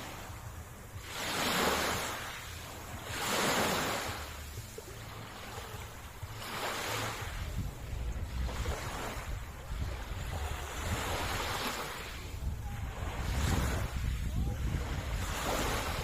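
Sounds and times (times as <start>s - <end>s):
ocean waves washing onto shore: 0.0s - 16.0s
wind rumbling on microphone: 0.0s - 16.0s.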